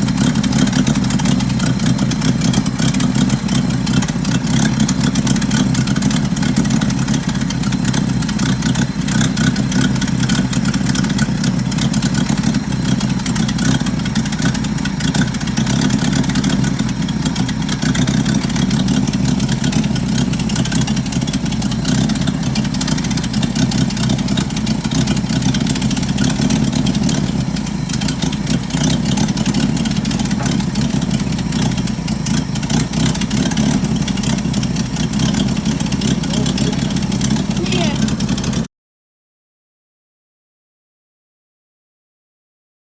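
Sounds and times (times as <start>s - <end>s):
exhaust leak puffing: 0.0s - 38.6s
truck engine running: 0.0s - 38.7s.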